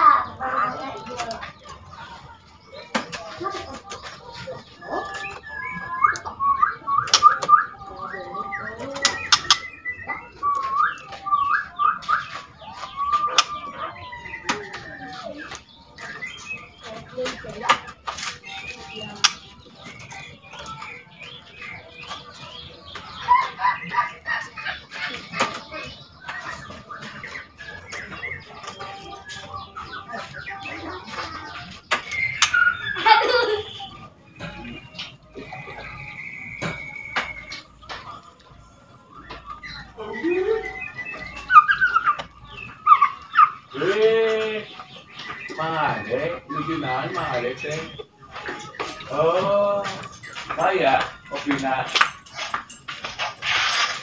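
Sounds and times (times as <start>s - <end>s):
bird whistling song: 0.0s - 54.0s.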